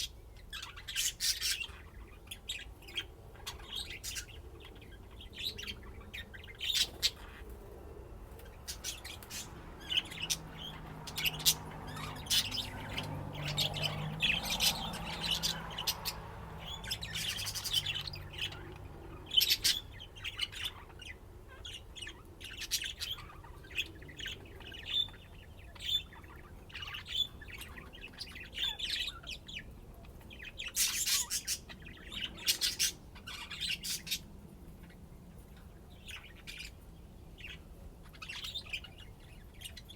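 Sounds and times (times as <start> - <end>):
budgerigars chirping: 0.0 - 7.5, 8.4 - 35.0, 35.9 - 36.8, 37.4 - 39.9.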